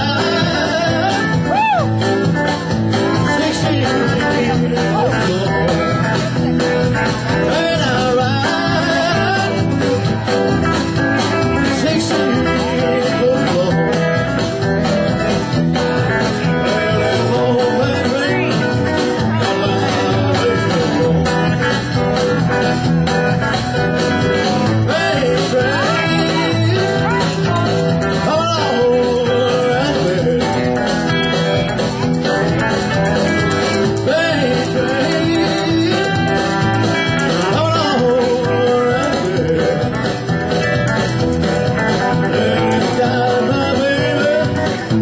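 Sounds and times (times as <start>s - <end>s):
live blues guitar: 0.0s - 45.0s
pulsing bass line: 0.0s - 45.0s.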